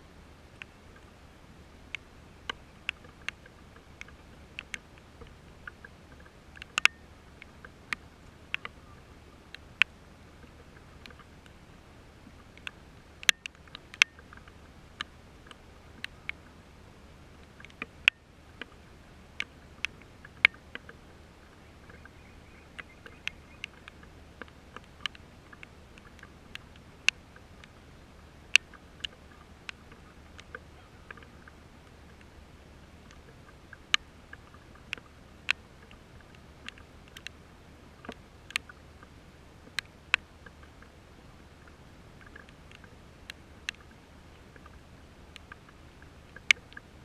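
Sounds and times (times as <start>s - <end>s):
faint steady hiss: 0.0s - 47.0s
raindrops dripping on hard surface: 0.1s - 47.0s.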